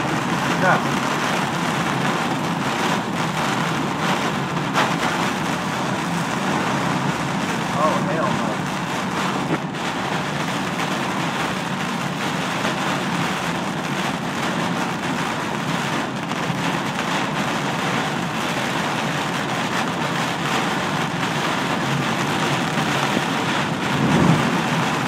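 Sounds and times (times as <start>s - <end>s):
heavy rain on car roof: 0.0s - 25.0s
tyre noise on wet road: 0.0s - 25.0s.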